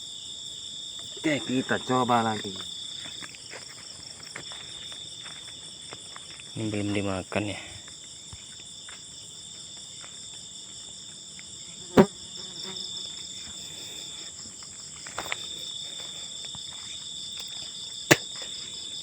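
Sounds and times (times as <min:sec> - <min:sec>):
crickets and insects trilling: 0:00.0 - 0:19.0.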